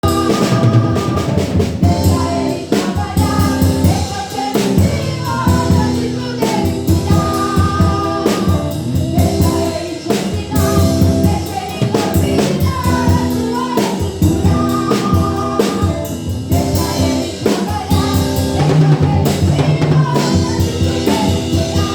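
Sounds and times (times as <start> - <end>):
band with drum kit: 0.0 - 21.9
gospel singing: 0.0 - 21.9.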